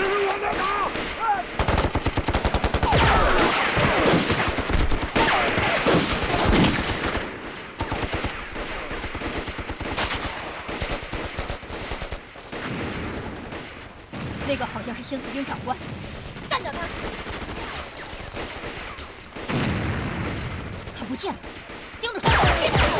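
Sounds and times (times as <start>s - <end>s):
machine-gun fire: 0.0s - 22.9s
rifle shots: 0.0s - 22.9s.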